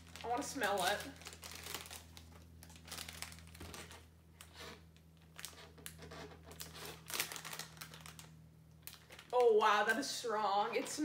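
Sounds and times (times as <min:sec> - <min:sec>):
plastic snack bag crinkling: 0:00.0 - 0:11.0.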